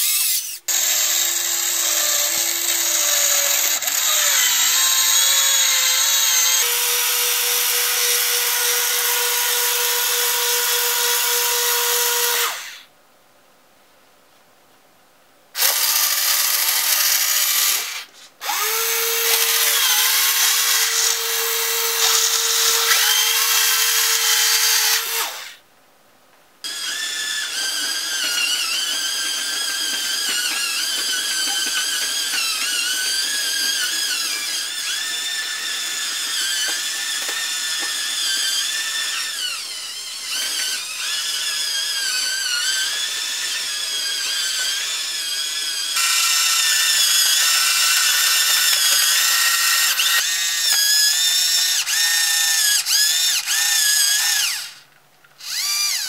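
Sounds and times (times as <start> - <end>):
servo motors whining: 0.0 - 12.8, 15.9 - 25.6, 26.7 - 54.8, 55.4 - 56.0.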